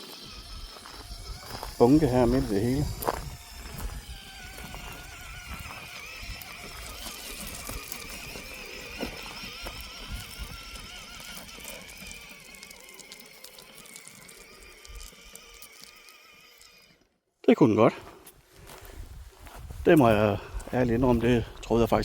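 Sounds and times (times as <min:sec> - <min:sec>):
electric motor and gearbox whining: 0:00.0 - 0:17.1, 0:18.6 - 0:22.0.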